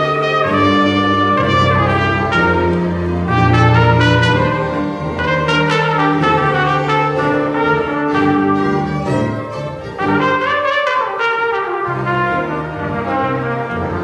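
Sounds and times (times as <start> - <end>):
small ensemble playing: 0.0 - 14.0
trumpet playing melody: 0.0 - 14.0.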